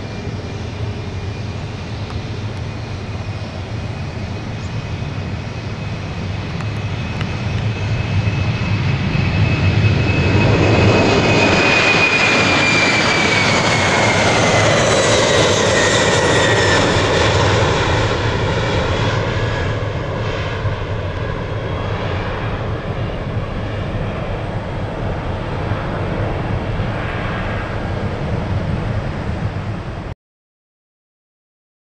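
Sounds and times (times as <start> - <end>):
jet engine high whine: 0.0 - 30.2
jet engines rumbling: 0.0 - 30.2.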